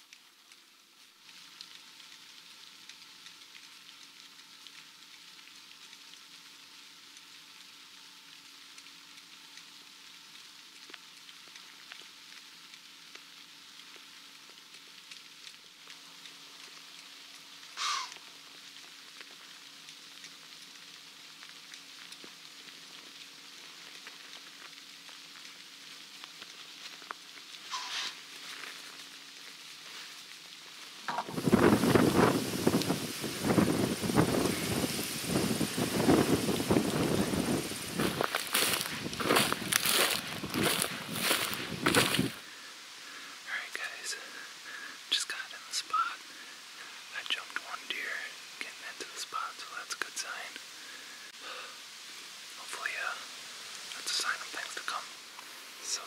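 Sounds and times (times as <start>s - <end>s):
evening field ambience hiss: 0.0s - 56.0s.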